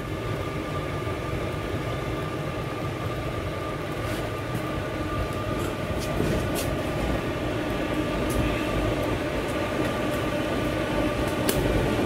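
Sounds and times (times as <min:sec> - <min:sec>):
fire roaring in a stove: 0:00.0 - 0:12.0.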